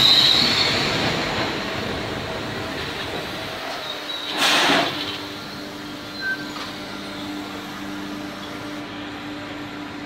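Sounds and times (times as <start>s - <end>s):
diesel railcar engine idling: 0.0s - 10.0s.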